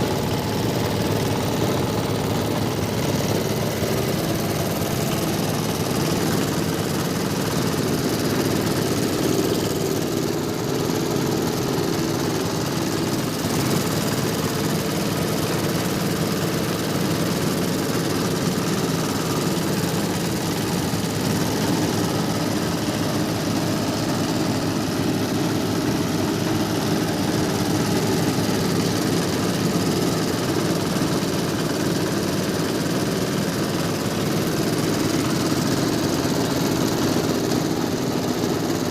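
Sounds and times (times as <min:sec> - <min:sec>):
grinder running: 0:00.0 - 0:38.9.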